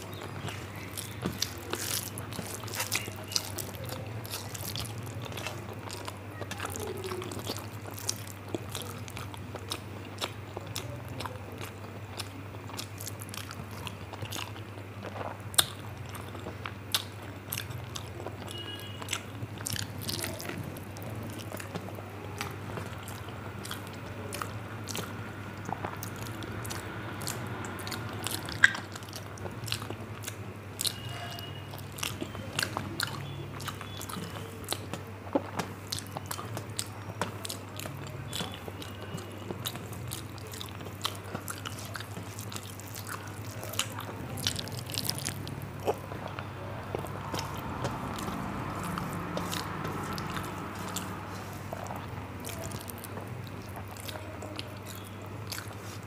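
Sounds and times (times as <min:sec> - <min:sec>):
person chewing and smacking: 0:00.0 - 0:56.0.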